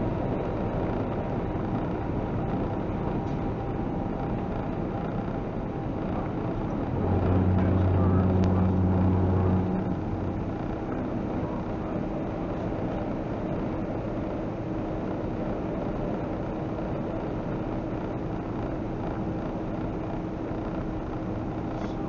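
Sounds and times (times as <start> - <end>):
truck engine and road drone: 0.0 - 22.0.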